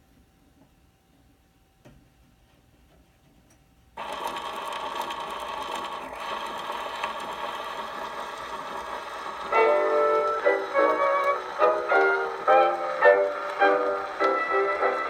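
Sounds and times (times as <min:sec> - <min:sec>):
record surface hiss: 0:00.0 - 0:15.0
phonograph needle set on record: 0:01.8 - 0:15.0.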